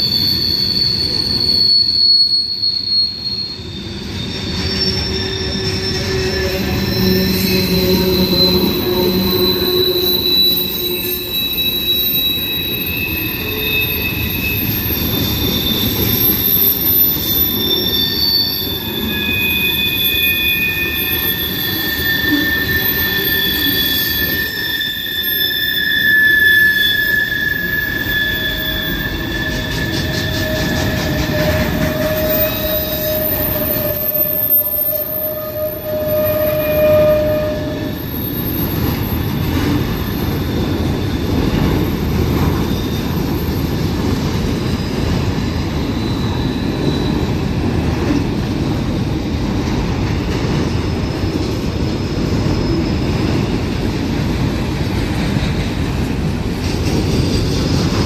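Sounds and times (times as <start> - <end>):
high-pitched wheel squeal: 0.0 - 56.2
freight train rumble: 2.7 - 58.0.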